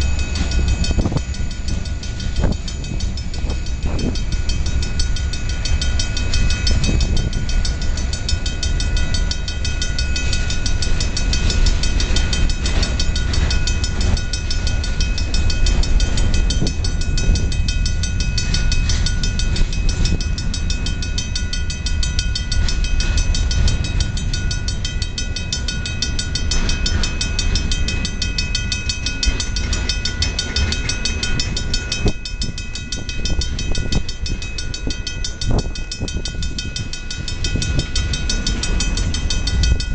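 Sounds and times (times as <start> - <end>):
crossing bell ringing: 0.0 - 39.9
train wheels rumbling on rails: 0.0 - 39.9
wheels clicking over rail joints: 0.0 - 39.9.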